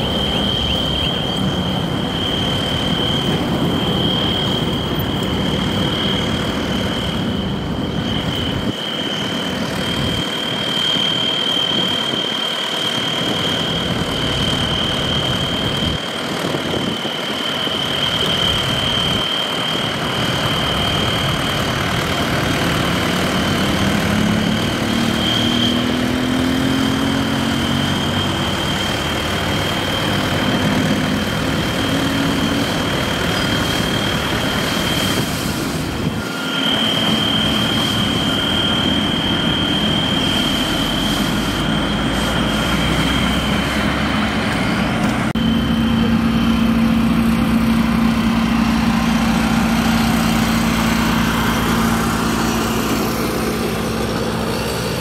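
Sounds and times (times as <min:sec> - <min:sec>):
steady high whine: 0:00.0 - 0:55.0
tractor diesel engine running: 0:00.0 - 0:55.0.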